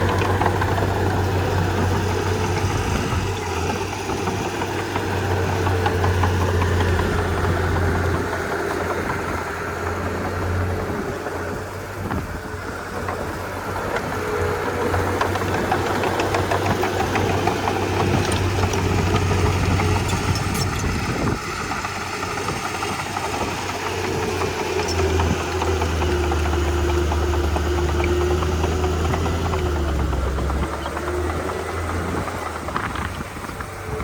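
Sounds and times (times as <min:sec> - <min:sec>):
bulldozer diesel engine humming: 0:00.0 - 0:34.0.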